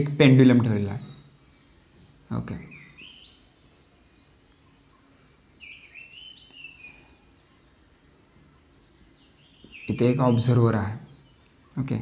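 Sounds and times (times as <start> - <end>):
high-pitched insect chirring: 0.0 - 12.0.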